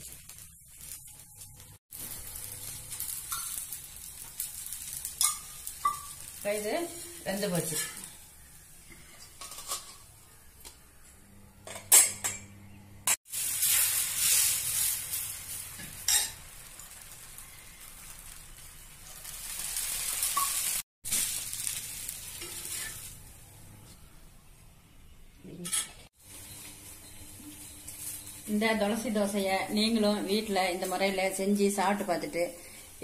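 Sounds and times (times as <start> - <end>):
dosa sizzling on a griddle: 0.0 - 10.6, 13.2 - 24.2, 26.2 - 33.0.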